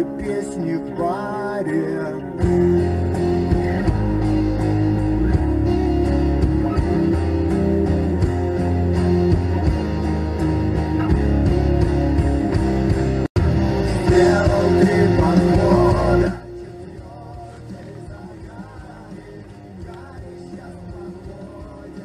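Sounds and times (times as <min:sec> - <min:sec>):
guitar music: 0:00.0 - 0:22.0.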